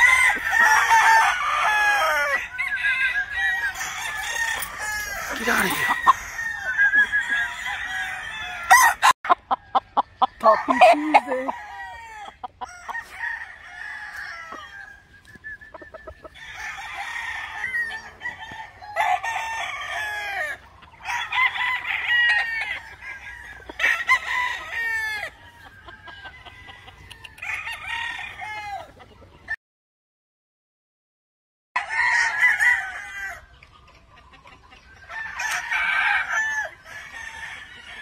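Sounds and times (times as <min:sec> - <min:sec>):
birds clucking: 0:00.0 - 0:29.6, 0:33.5 - 0:36.2
roosters crowing: 0:00.0 - 0:29.6, 0:31.8 - 0:33.6, 0:34.8 - 0:38.0.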